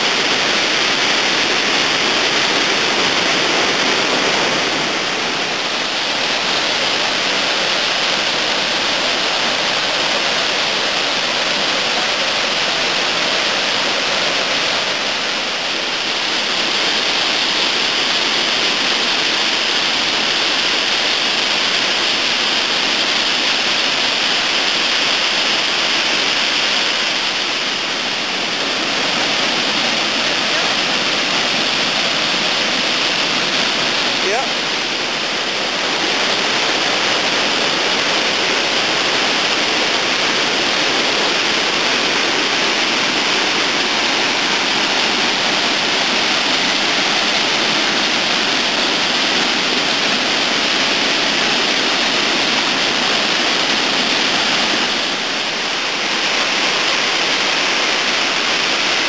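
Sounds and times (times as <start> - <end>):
waterfall rushing over rock: 0.0 - 59.0.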